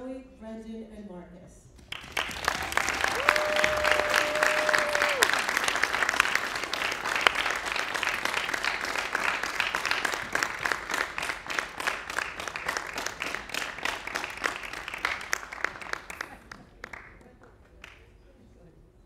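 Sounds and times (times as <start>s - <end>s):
audience applauding: 1.8s - 18.1s.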